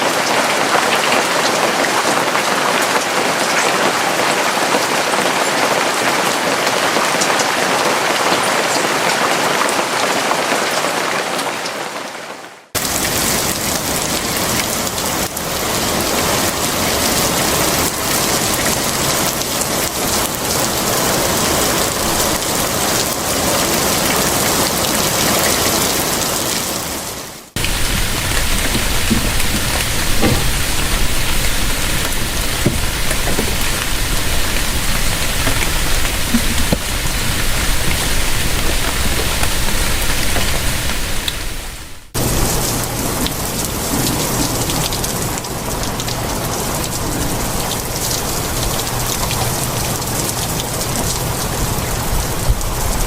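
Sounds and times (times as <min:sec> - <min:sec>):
heavy rain pattering: 0:00.0 - 0:53.0.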